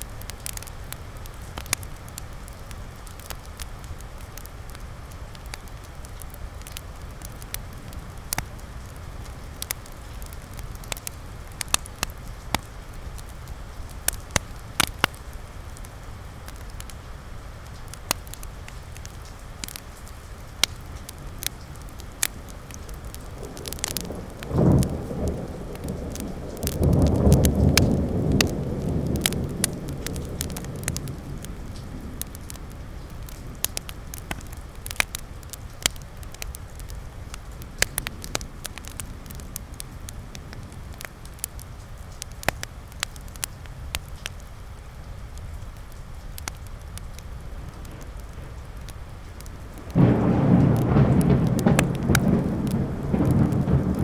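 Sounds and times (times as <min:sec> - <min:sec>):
fireplace crackling and popping: 0:00.0 - 0:54.0
rain pattering: 0:00.0 - 0:54.0.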